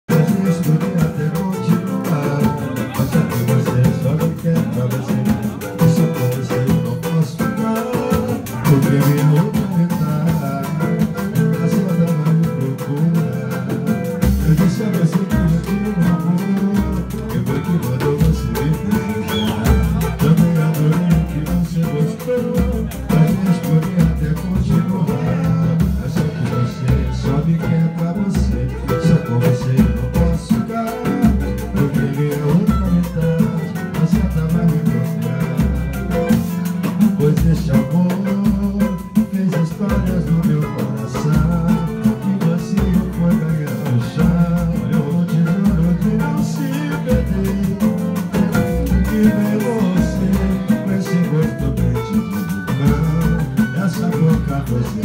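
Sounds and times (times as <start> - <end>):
deep bass line: 0.0 - 55.0
man singing: 0.0 - 55.0
pandeiro: 0.0 - 55.0
acoustic guitars strummed: 0.1 - 55.0.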